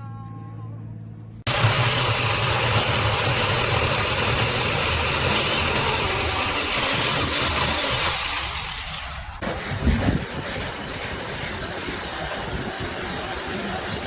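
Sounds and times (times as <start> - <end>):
mini chainsaw running: 1.5 - 14.0.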